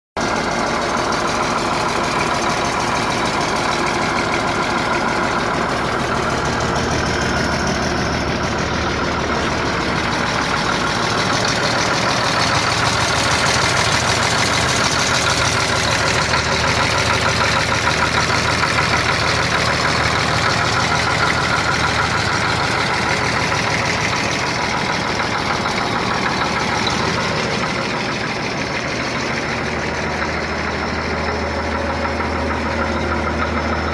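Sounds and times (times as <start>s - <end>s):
engine idling: 0.2s - 33.9s.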